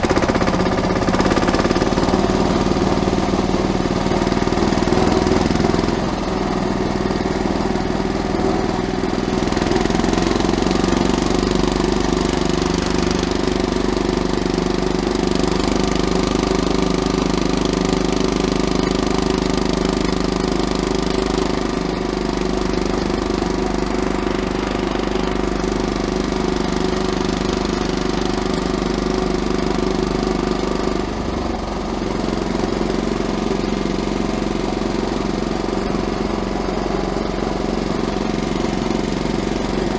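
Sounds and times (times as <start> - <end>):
garden tractor diesel engine: 0.0 - 39.9.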